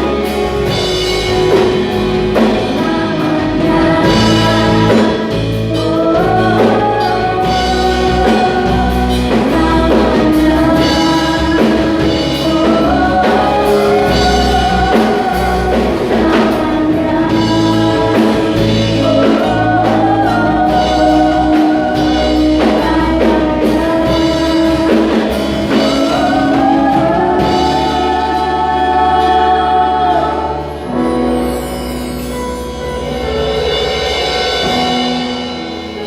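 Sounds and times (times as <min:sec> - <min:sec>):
drum kit: 0:00.0 - 0:36.0
worship band with singers: 0:00.0 - 0:36.0.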